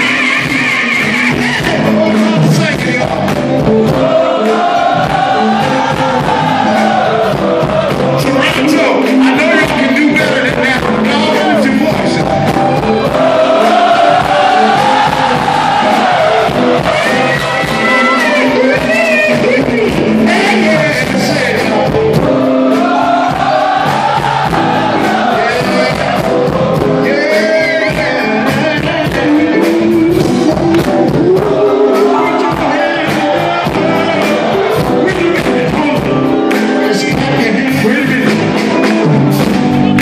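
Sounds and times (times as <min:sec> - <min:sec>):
people singing: 0:00.0 - 0:39.0
funk band playing: 0:00.0 - 0:40.0.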